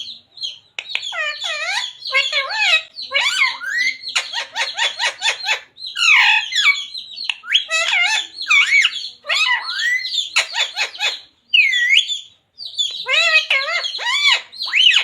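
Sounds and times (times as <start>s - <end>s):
parrot chatter and squawks: 0.0s - 15.0s
parrot mimic talk: 0.9s - 12.2s, 12.8s - 15.0s.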